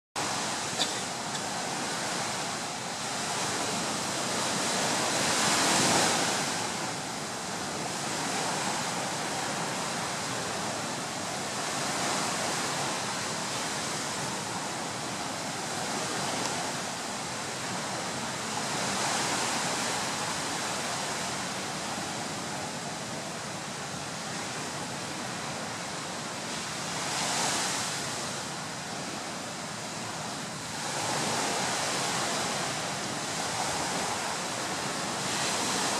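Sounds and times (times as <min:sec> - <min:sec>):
surf washing onto beach: 0:00.2 - 0:35.9.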